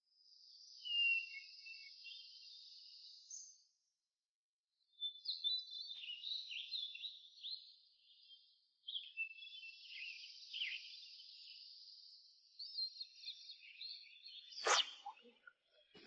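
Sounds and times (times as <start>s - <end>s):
small birds chirping: 0.2s - 3.8s, 4.8s - 16.0s.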